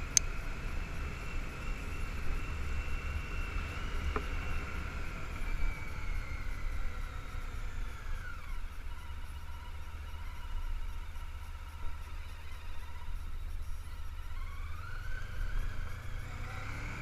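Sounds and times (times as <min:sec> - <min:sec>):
motorcycle whine: 0:00.0 - 0:17.0.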